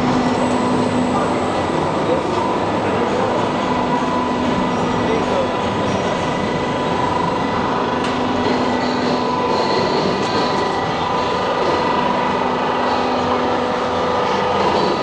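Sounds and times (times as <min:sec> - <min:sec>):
roll forming machine droning: 0:00.0 - 0:15.0.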